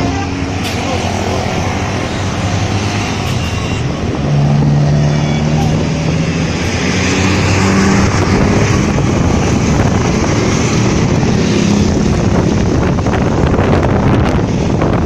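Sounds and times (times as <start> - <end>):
coach engine passing: 0.0 - 15.0
wind buffeting microphone: 0.0 - 15.0.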